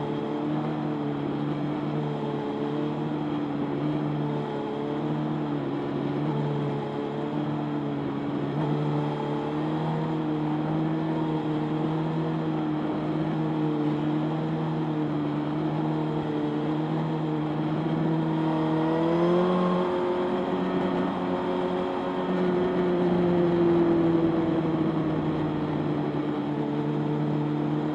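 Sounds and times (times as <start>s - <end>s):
road and wind noise: 0.0s - 27.9s.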